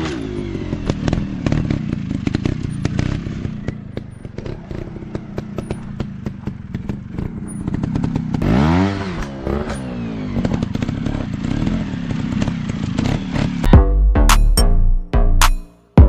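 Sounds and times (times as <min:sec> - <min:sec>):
dirt bike engine revving: 0:00.0 - 0:13.7.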